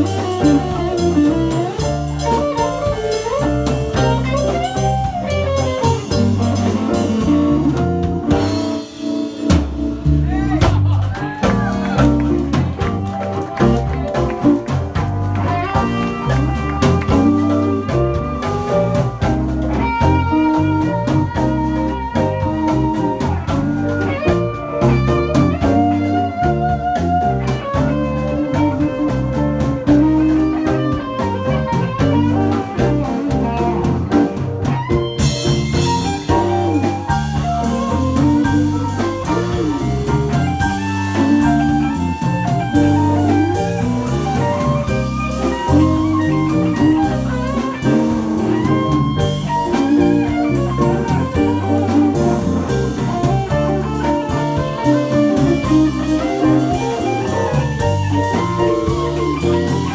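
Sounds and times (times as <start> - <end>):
blues band playing: 0.0 - 59.9
electric guitar lead: 0.0 - 59.9.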